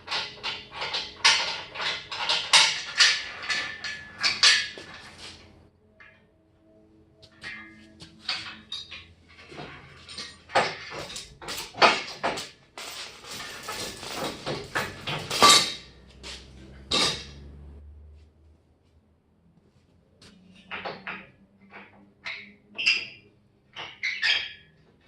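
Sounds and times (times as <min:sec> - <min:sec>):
metal tools clanking and rattling: 0:00.0 - 0:06.2, 0:07.3 - 0:17.5, 0:20.6 - 0:24.8.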